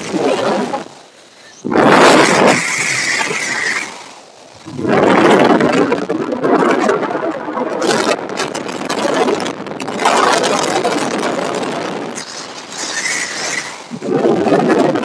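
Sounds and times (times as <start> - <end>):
freefall wind rushing: 0.0 - 15.0.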